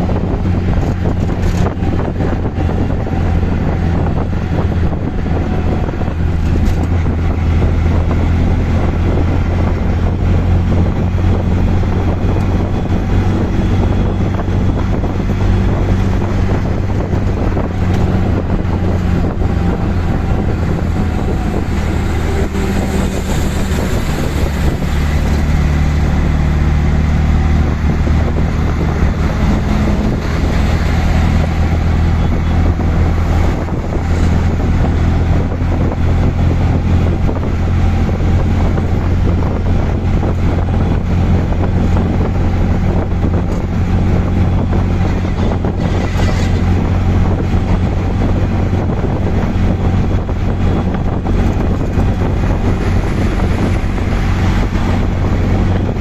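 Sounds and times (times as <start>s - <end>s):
auto-rickshaw engine running: 0.0s - 56.0s
road and wind noise: 0.0s - 56.0s.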